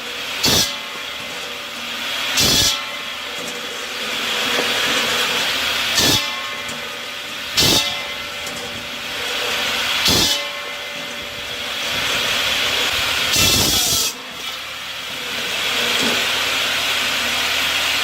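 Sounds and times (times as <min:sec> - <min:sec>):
machinery hissing: 0:00.0 - 0:18.0.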